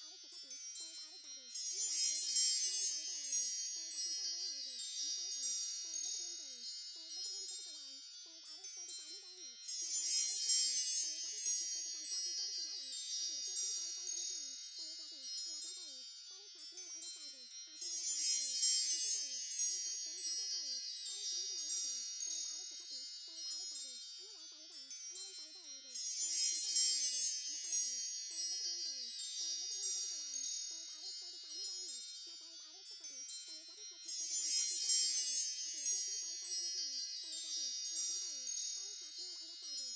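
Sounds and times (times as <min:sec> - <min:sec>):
wind chimes tinkling: 0:00.0 - 0:39.9.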